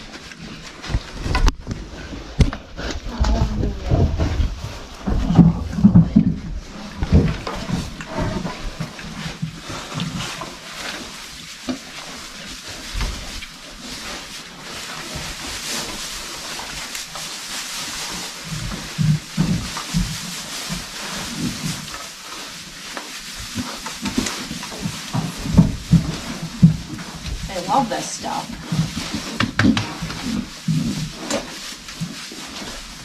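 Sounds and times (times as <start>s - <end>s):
hay rustling: 2.8s - 33.0s.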